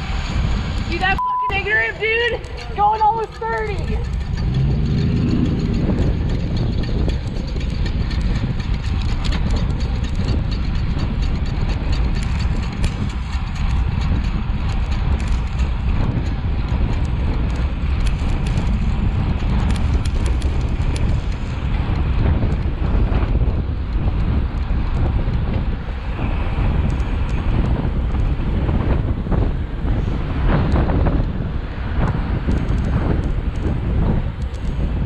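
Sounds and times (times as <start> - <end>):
road and traffic noise: 0.0 - 35.0
wind on microphone: 0.0 - 35.0.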